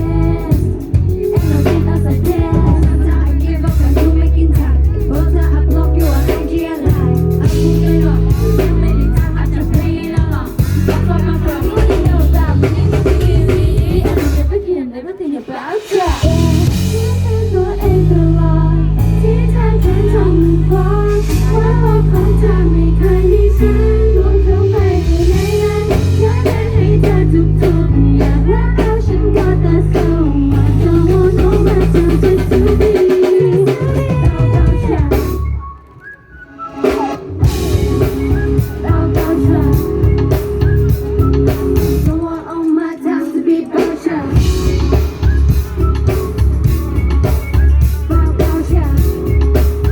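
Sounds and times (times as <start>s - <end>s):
pop music through loudspeakers: 0.0s - 49.9s.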